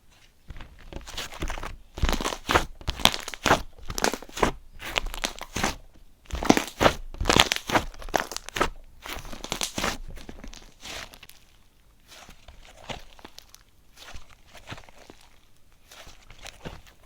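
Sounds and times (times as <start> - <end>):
slime crunching and crinkling: 0.0 - 17.0.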